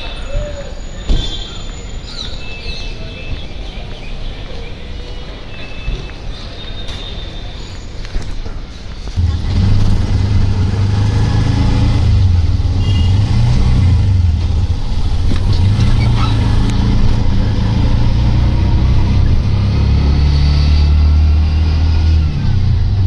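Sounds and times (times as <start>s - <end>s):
road and traffic noise: 0.0s - 23.0s.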